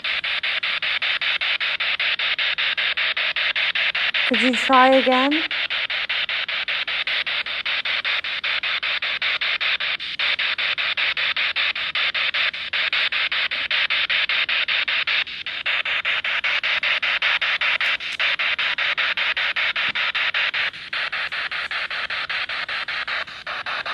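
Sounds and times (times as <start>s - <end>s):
radio static hiss: 0.0s - 23.9s.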